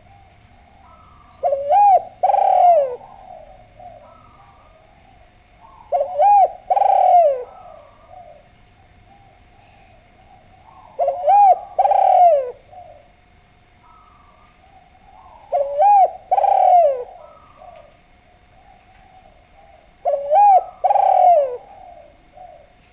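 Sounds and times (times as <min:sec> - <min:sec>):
dove cooing: 0:00.0 - 0:22.9.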